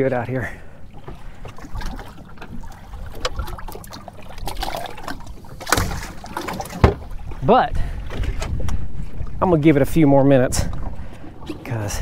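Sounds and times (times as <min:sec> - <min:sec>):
water lapping against boat: 0:00.0 - 0:12.0.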